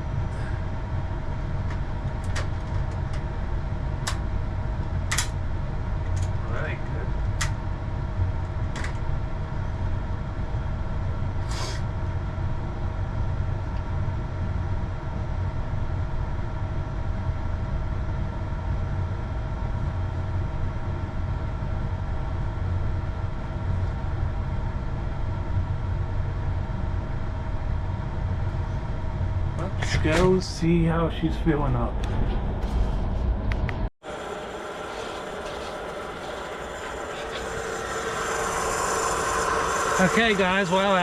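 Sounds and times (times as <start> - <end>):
machine humming with low rumble: 0.0 - 41.0.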